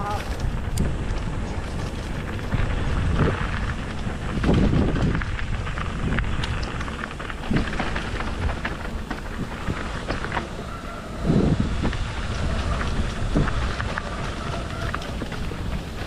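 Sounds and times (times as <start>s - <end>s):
bike tyres knocking on rocks: 0.0s - 16.0s
wind rushing on microphone: 0.0s - 16.0s.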